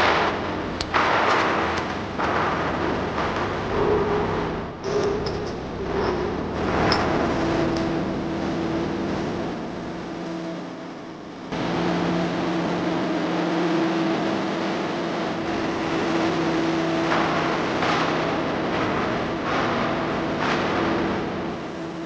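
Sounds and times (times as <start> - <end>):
welding arc crackling: 0.0 - 10.6, 11.3 - 22.0
welding machine hum: 0.0 - 22.0.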